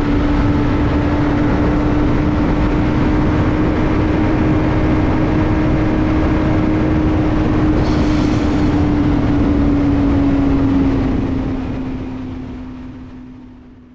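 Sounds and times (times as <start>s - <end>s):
wind rushing: 0.0s - 13.4s
motorcycle engine: 0.0s - 13.9s.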